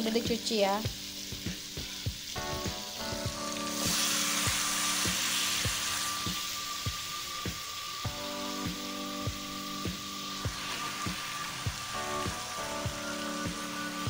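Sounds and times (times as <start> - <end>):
background music with a beat: 0.0 - 14.0
oil sizzling in a wok: 0.0 - 14.0.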